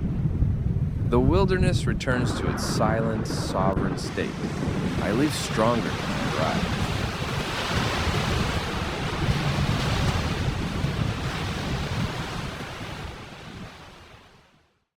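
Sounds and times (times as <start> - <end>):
blizzard wind rushing: 0.0 - 13.7
wind rumbling on microphone: 0.0 - 14.4.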